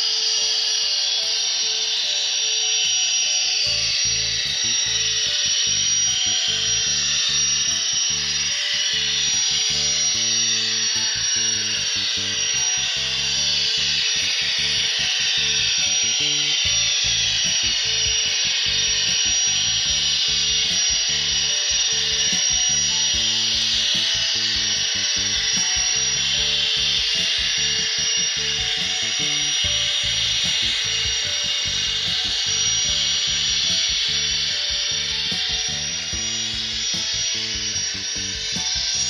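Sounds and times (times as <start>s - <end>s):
model locomotive turbine whine: 0.0s - 39.0s
background music with bass line: 3.7s - 39.0s.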